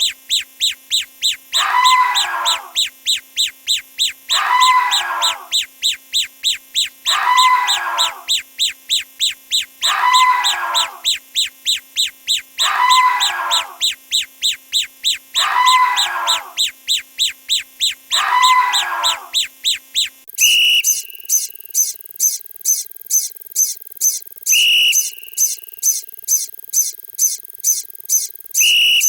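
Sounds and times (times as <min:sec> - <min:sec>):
quick even ticks: 0:00.0 - 0:12.6, 0:13.2 - 0:15.4, 0:16.0 - 0:18.1, 0:18.8 - 0:29.0.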